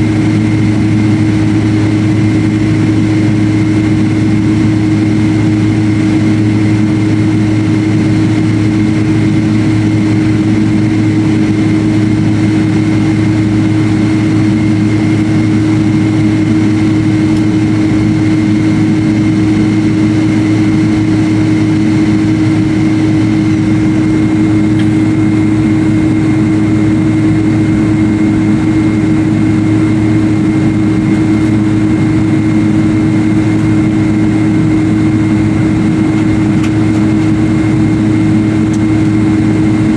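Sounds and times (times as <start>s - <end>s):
high whine: 0.0s - 39.9s
jet engine drone in cabin: 0.0s - 39.9s.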